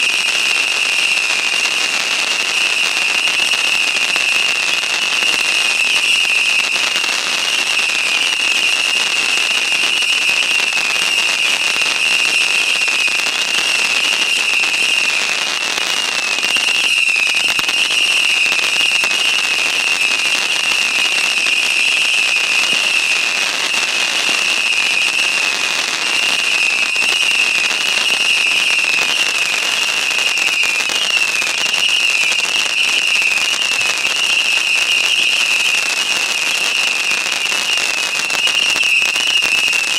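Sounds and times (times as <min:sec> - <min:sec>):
fireworks crackling: 0:00.0 - 0:39.9
high whistle-like tone: 0:02.5 - 0:39.9.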